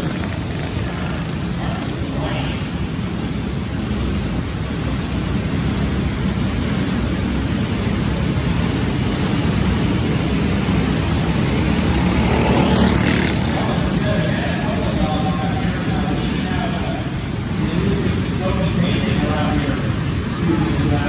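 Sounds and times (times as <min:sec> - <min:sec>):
go-kart engines racing: 0:00.0 - 0:21.0.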